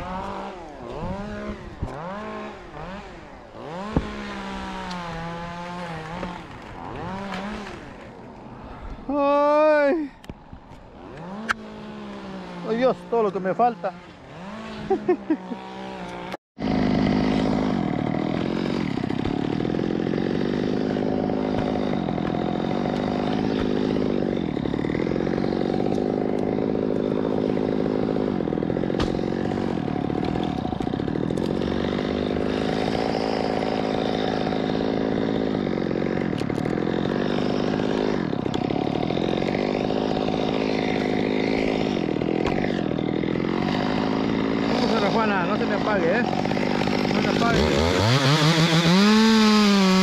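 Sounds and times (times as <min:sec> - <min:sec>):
chainsaw cutting wood: 0:00.0 - 0:09.2, 0:09.8 - 0:50.0.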